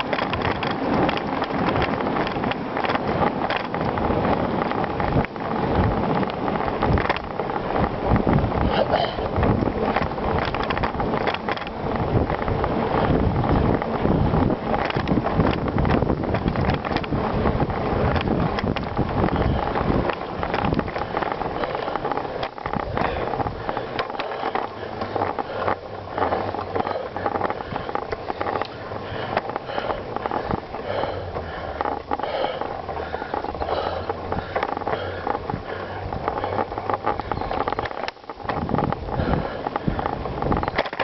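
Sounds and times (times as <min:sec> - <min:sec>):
bicycle tyre noise: 0:00.0 - 0:41.0
bike clicks and rattles: 0:00.0 - 0:41.0
wind buffeting microphone: 0:00.0 - 0:41.0.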